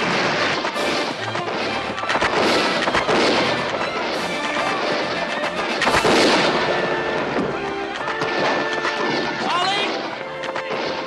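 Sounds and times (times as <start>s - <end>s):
background film music: 0.0s - 11.0s
clashing impacts: 0.0s - 11.0s
gunshots: 0.0s - 11.0s.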